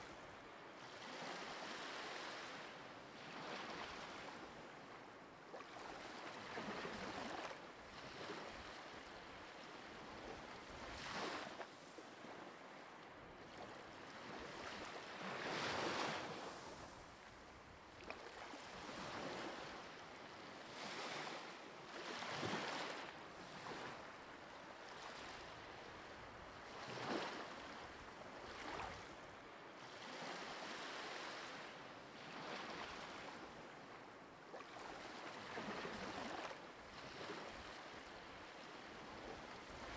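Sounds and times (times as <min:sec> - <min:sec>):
faint ocean waves: 0:00.0 - 0:39.9.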